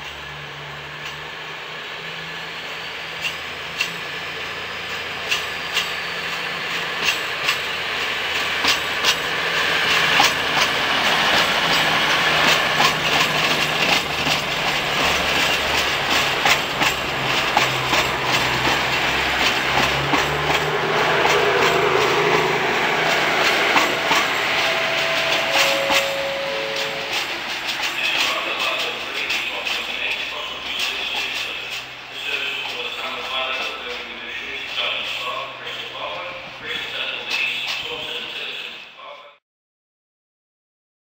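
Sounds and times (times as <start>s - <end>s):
diesel train engines running: 0.0s - 38.8s
train wheels clicking over rail joints: 3.0s - 35.5s, 36.7s - 38.6s.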